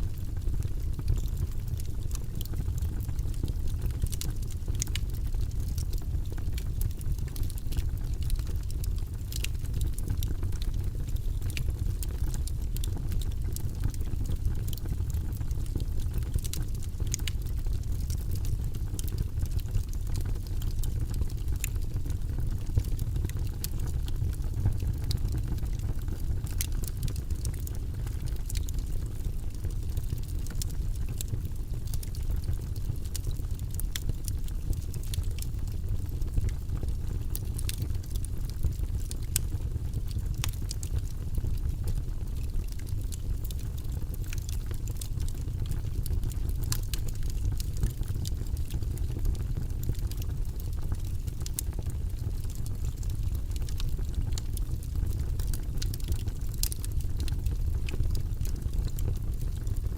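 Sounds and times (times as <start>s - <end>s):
burning wood crackling and popping: 0.0s - 59.9s
low rumble of flames: 0.0s - 59.9s.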